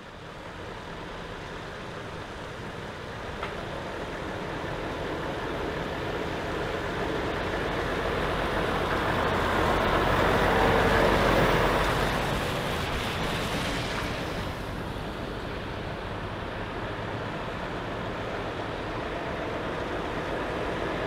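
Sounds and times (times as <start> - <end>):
truck engine hum: 0.0 - 21.0
tyre noise on wet road: 0.0 - 21.0.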